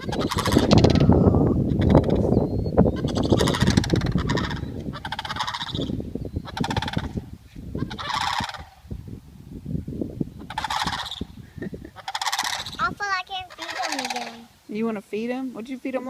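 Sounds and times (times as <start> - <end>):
cranes rattling calls: 0.0 - 8.9, 10.3 - 16.0.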